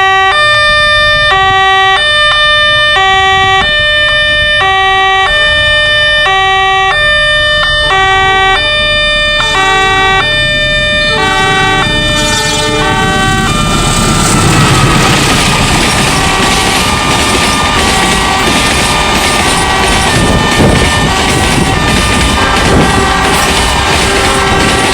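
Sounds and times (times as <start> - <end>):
passing train rushing: 0.0 - 24.9
two-tone level crossing alarm: 0.0 - 24.9.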